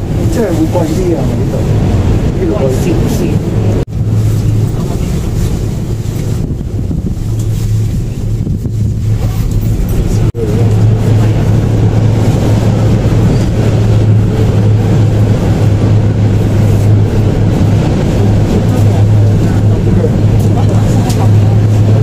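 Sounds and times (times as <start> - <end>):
cable car cabin rumble and hum: 0.0 - 22.0.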